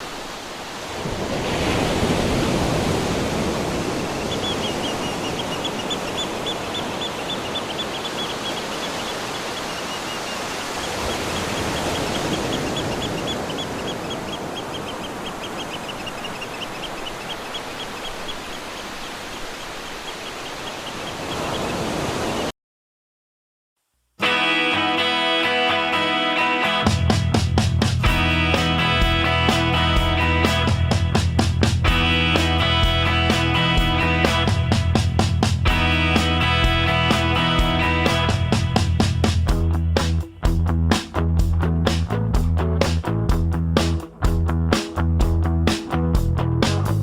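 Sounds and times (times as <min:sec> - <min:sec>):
ocean surf washing: 0:00.0 - 0:22.5, 0:24.3 - 0:42.0.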